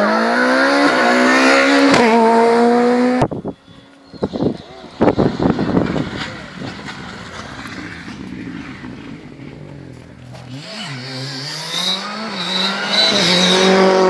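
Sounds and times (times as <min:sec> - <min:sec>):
rally car engine accelerating: 0:00.0 - 0:03.3, 0:04.3 - 0:14.0
distant car: 0:00.0 - 0:14.0.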